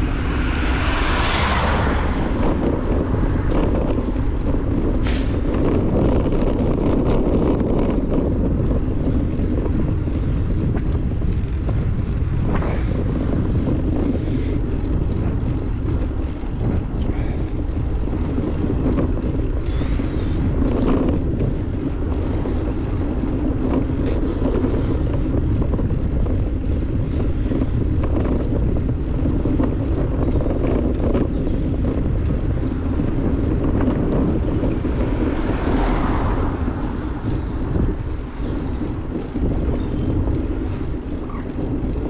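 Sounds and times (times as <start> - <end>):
tyres rumbling on road: 0.0 - 42.0
wind rushing over microphone: 0.0 - 42.0.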